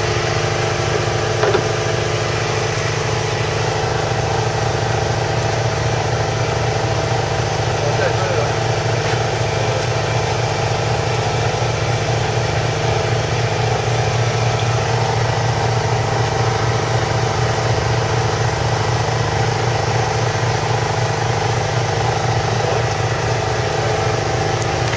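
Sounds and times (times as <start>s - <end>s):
boat engine droning: 0.0s - 24.9s.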